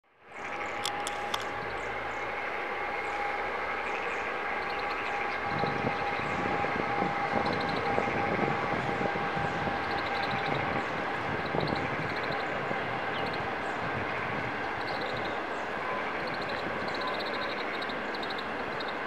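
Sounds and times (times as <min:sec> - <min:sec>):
electric locomotive drone: 0:00.0 - 0:19.0.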